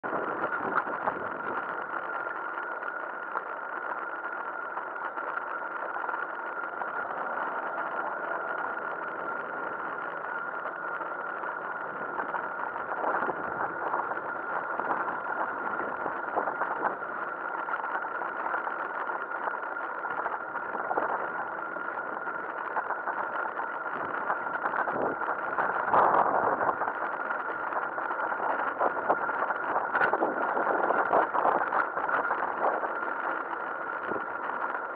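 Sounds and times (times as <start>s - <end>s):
high whine: 0.0s - 34.9s
bicycle riding on brick path: 1.1s - 34.9s.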